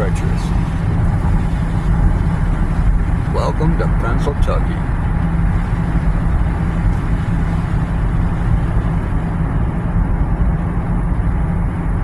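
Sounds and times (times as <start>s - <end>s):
road and engine noise in car: 0.0s - 12.0s
tyres on snowy road: 0.0s - 12.0s.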